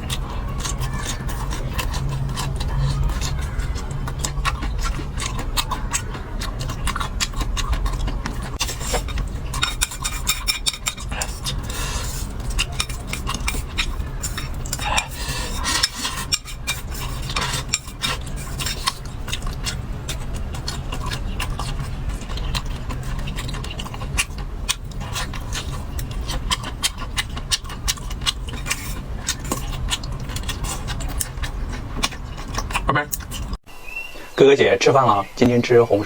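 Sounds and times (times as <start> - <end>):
utensils clicking against a bowl: 0.0 - 33.6
steady low hum: 0.0 - 36.0.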